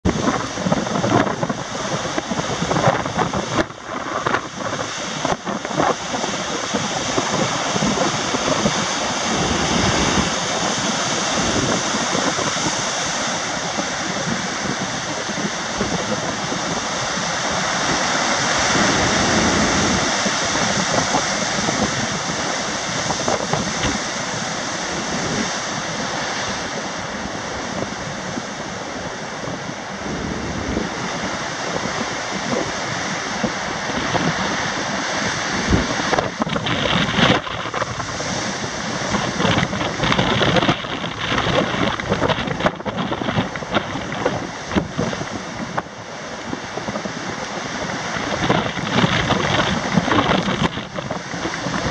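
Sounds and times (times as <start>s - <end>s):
surf breaking over rocks: 0.0s - 51.9s
wind buffeting microphone: 0.0s - 51.9s.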